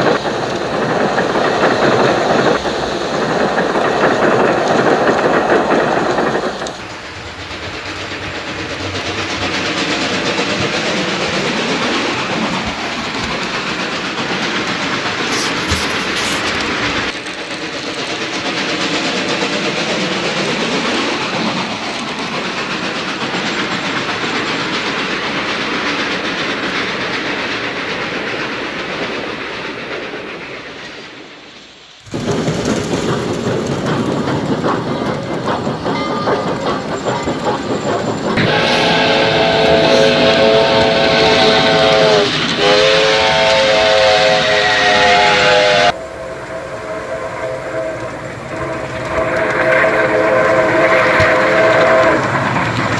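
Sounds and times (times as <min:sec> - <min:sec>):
clickety-clack of wheels: 0:00.0 - 0:31.3, 0:32.0 - 0:45.6, 0:47.9 - 0:52.9
model train rumbling on track: 0:00.0 - 0:52.9.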